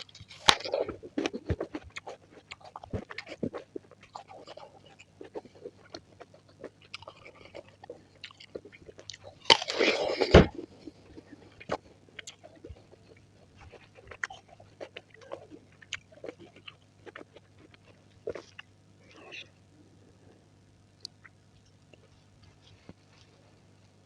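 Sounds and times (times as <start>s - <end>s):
crunching bite: 0.0s - 19.4s
wet chewing: 0.0s - 19.5s.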